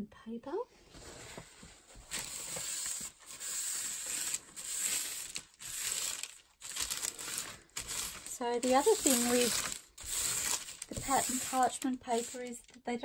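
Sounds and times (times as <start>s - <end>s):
paper towel rasping on paper: 2.1s - 12.6s.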